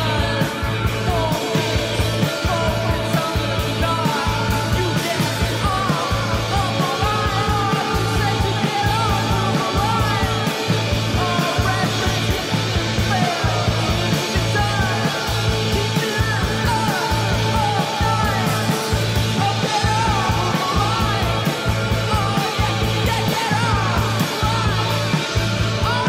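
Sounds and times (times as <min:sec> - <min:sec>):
rock song with singing: 0:00.0 - 0:26.0.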